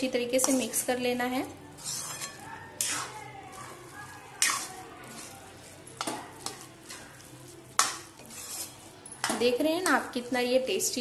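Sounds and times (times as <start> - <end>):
spoon stirring thick mash: 0.1 - 11.0.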